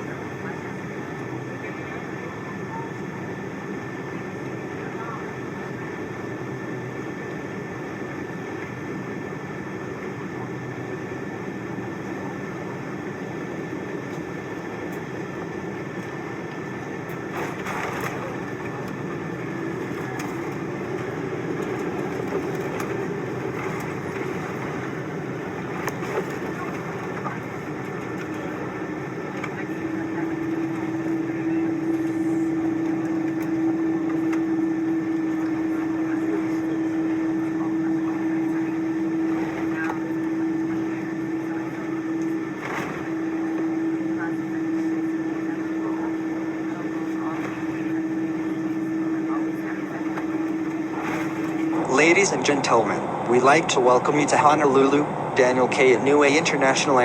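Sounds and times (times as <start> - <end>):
engine hum: 0.0 - 57.0
airliner cabin rushing drone: 10.8 - 57.0.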